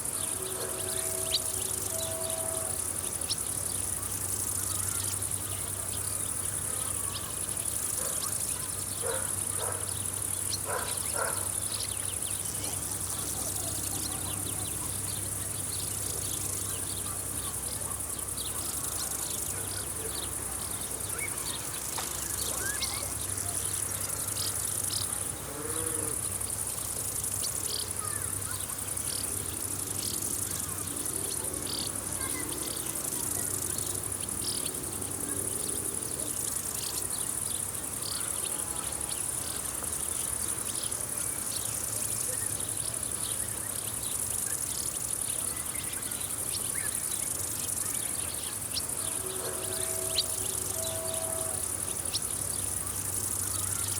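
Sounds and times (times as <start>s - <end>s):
insects high-pitched trill: 0.0s - 53.9s
short insect chirps: 0.0s - 53.9s.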